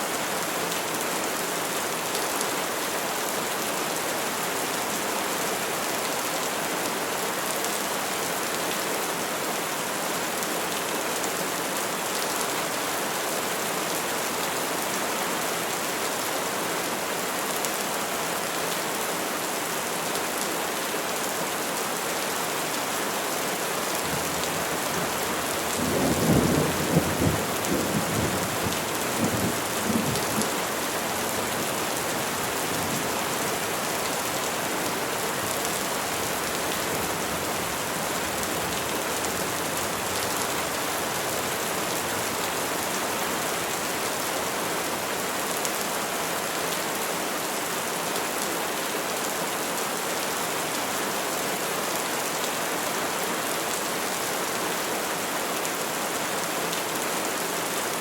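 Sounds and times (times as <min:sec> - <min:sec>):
rain falling on trees: 0:00.0 - 0:58.0.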